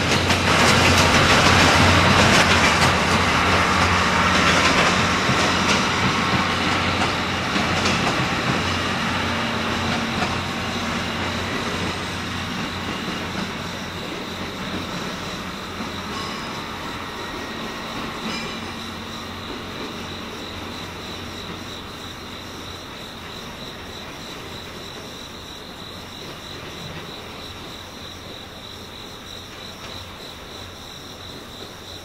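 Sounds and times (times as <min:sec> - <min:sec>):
train coaches rolling past: 0:00.0 - 0:32.0
wheels clicking over rail joints: 0:00.0 - 0:32.0.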